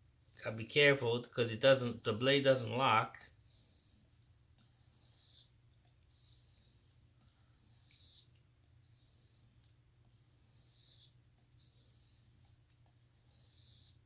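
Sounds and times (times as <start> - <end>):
knife blade stropping strokes: 0.3 - 14.0.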